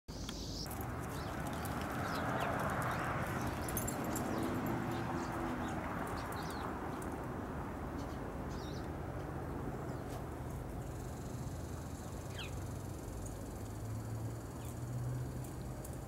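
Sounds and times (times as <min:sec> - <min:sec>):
low outdoor rush: 0:00.1 - 0:16.0.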